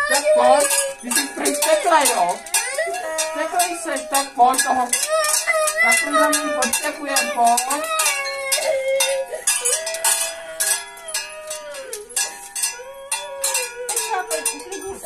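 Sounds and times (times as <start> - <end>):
bells clanging and jangling: 0.0 - 15.0.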